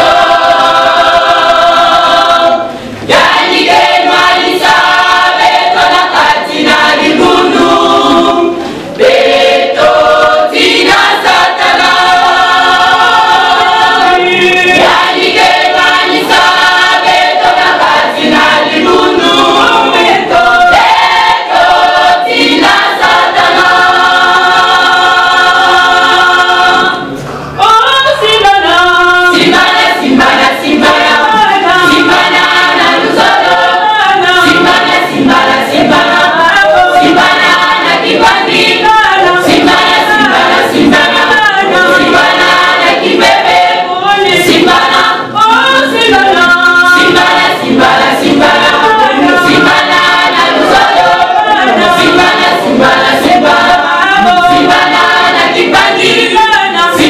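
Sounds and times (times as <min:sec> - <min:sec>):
women's choir singing a cappella: 0:00.0 - 0:57.0.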